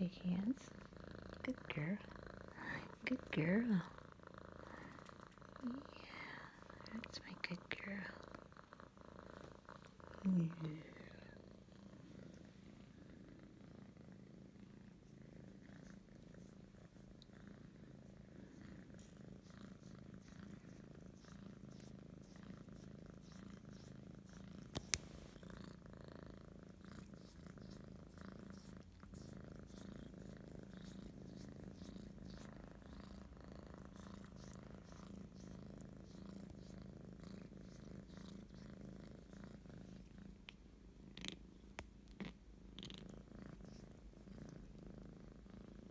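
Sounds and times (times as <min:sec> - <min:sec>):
kitten purring: 0:00.0 - 0:45.9.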